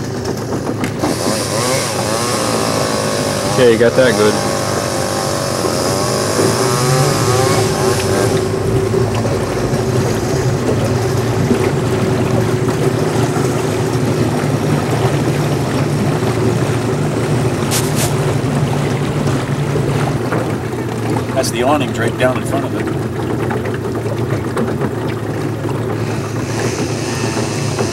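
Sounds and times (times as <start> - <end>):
engine droning steadily: 0.0 - 27.9.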